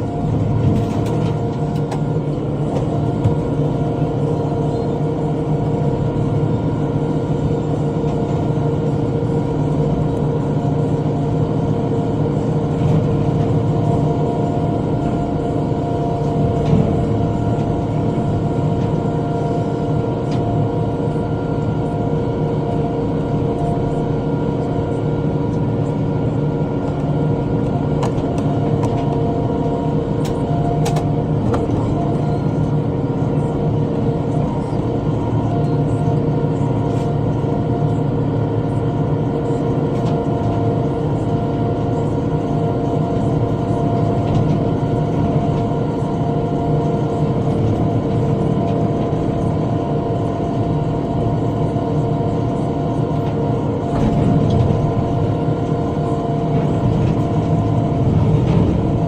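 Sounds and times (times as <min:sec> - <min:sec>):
tractor engine droning under load: 0:00.0 - 0:59.0.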